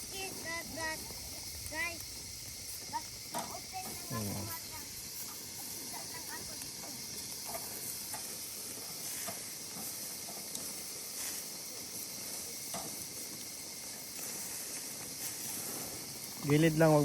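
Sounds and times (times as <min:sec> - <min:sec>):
grill pops and crackles: 0:00.0 - 0:17.0
meat sizzling on a grill: 0:00.0 - 0:17.0.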